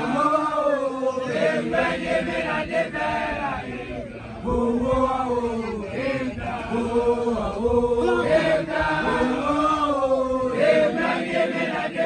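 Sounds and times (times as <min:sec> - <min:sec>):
group chanting in unison: 0:00.0 - 0:12.0.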